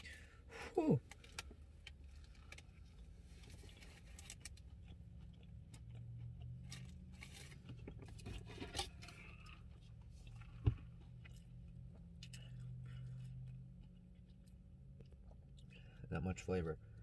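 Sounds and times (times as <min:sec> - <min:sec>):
chewing crispy food: 0:00.0 - 0:17.0
low steady hum: 0:00.0 - 0:17.0.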